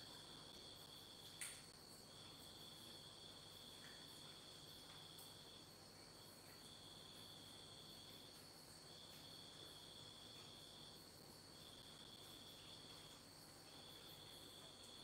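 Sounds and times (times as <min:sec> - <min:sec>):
insect intermittent trill: 0:00.0 - 0:15.0.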